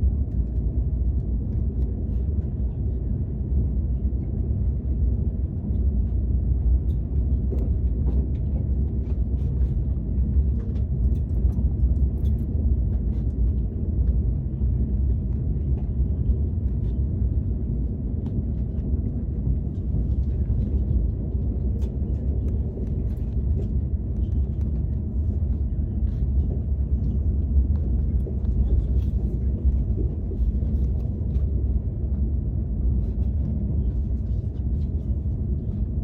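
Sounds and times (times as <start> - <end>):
train cabin rumble: 0.0 - 36.0.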